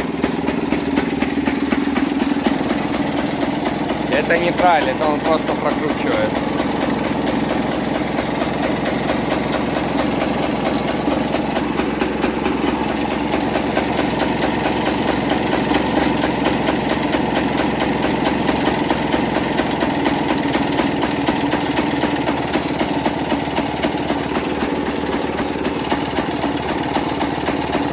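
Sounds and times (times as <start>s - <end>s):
two-stroke engine idling: 0.0s - 27.9s.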